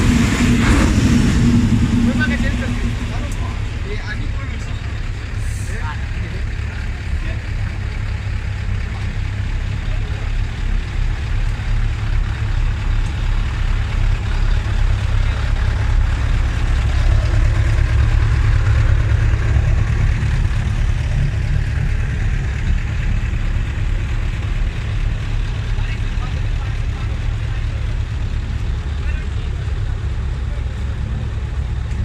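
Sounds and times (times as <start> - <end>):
truck diesel engine idling: 0.0 - 32.0.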